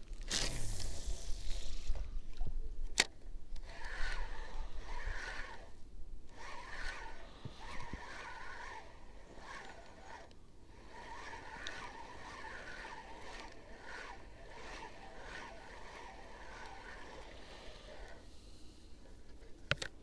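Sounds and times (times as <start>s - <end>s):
fishing reel gears whirring: 0.2s - 2.1s, 3.0s - 19.0s.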